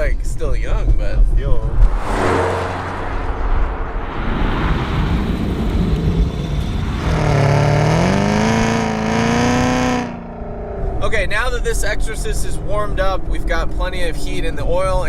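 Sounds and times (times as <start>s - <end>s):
car engine rumbling and revving: 1.6s - 14.6s.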